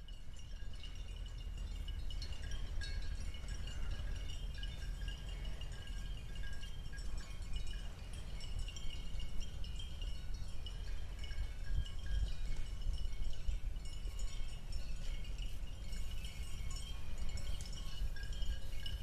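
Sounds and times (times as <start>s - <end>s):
high thin ringing calls: 0.0s - 19.0s
steady low rumble: 0.0s - 19.0s.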